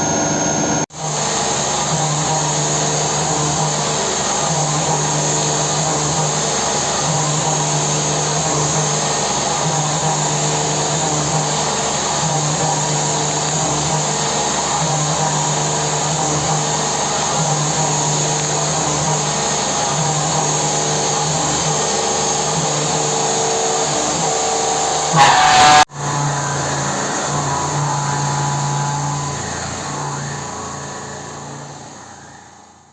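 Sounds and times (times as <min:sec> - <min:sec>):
milling machine hum and whine: 0:00.0 - 0:32.9.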